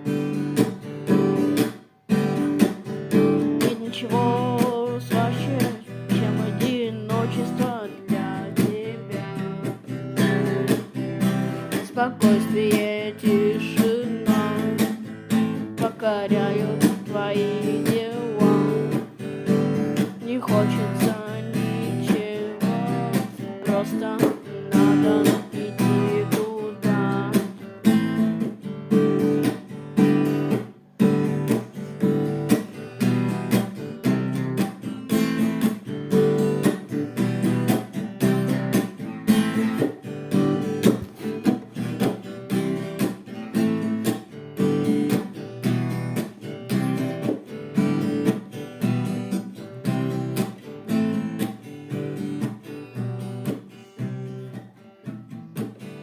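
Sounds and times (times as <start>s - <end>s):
strummed guitar chords: 0.0s - 56.0s.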